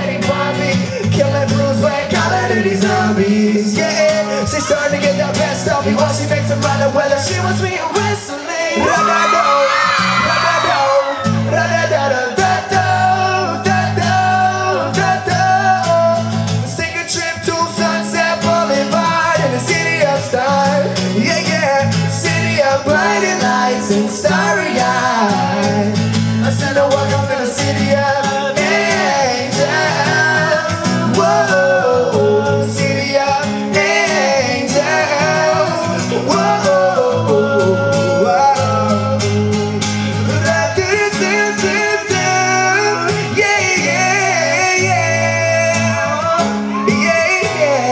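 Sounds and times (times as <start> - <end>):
acoustic guitar strumming: 0.0 - 47.9
man singing into microphones: 0.0 - 47.9.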